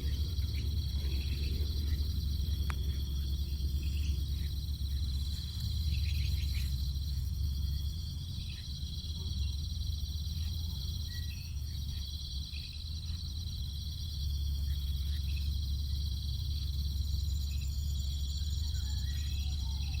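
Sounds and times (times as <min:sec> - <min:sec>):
crickets and insects chorus: 0:00.0 - 0:20.0
steady low rumble: 0:00.0 - 0:20.0.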